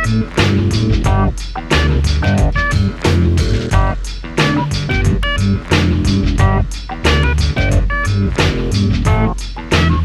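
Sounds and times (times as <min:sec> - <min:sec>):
song with guitar bass and drums: 0:00.0 - 0:10.0.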